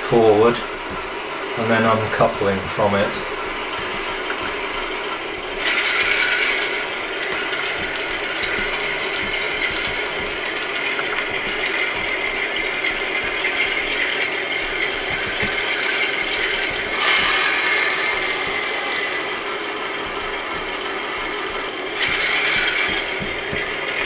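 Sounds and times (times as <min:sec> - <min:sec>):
model running gear rattling: 0:00.0 - 0:24.0.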